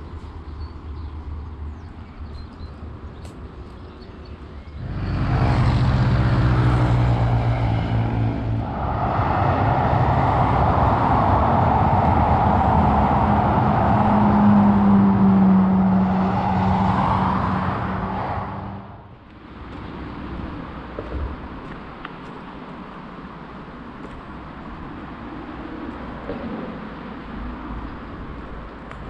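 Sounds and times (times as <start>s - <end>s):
low engine hum: 0.0s - 29.0s
tyre noise of passing cars: 0.0s - 29.0s.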